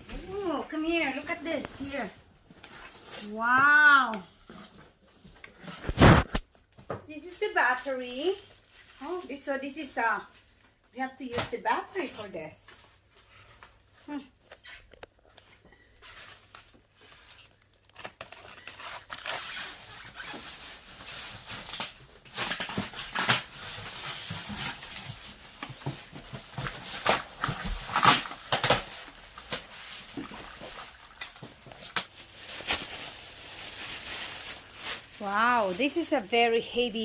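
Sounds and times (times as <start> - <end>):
plastic and paper rustling: 0.0 - 9.7, 11.3 - 37.0.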